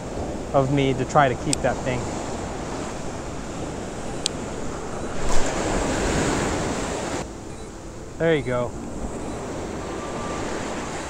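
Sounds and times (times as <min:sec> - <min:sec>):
ocean surf washing up: 0:00.0 - 0:11.0
wind buffeting microphone: 0:00.0 - 0:11.0.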